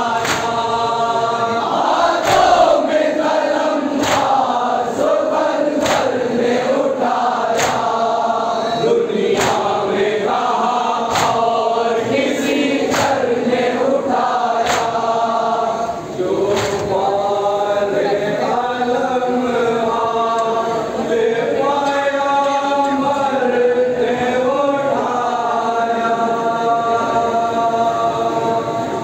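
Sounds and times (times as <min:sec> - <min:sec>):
men chanting in unison: 0:00.0 - 0:29.0.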